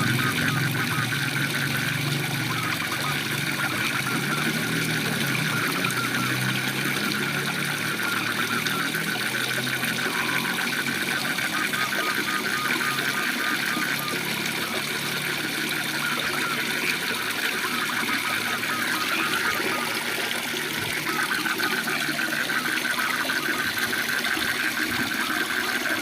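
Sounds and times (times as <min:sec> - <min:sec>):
frogs calling: 0:00.0 - 0:26.0
waterfall running: 0:00.0 - 0:26.0.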